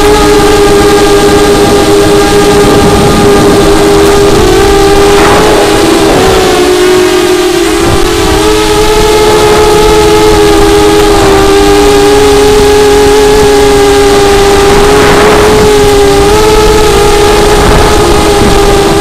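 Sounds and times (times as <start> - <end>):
model plane motor buzzing: 0.0 - 19.0
wind noise: 0.0 - 19.0.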